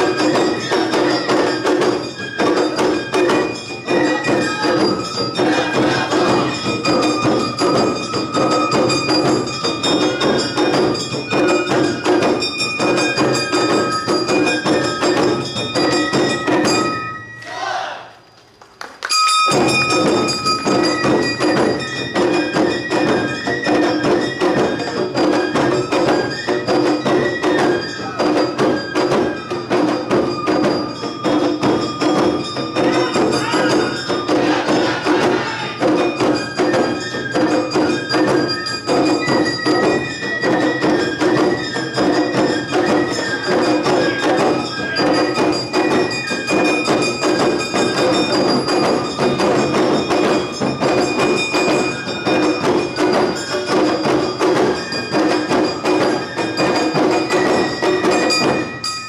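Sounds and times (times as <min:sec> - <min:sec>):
drums: 0:00.0 - 0:17.7, 0:18.5 - 0:59.0
shamisen: 0:00.0 - 0:17.8, 0:19.0 - 0:59.0
bamboo flute: 0:00.0 - 0:18.2, 0:19.5 - 0:49.6, 0:50.2 - 0:59.0.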